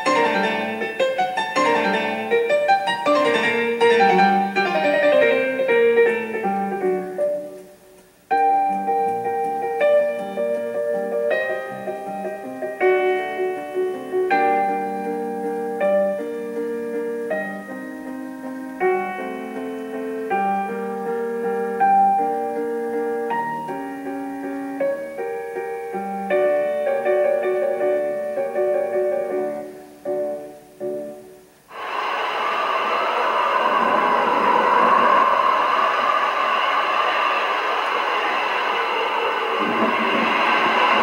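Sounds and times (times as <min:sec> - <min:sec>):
slow piano chords: 0:00.0 - 0:41.0.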